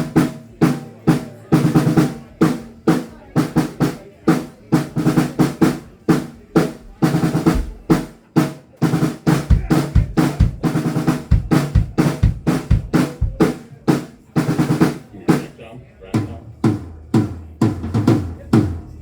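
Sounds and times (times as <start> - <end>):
snare and tom drum strokes: 0.0 - 15.6, 16.2 - 19.0.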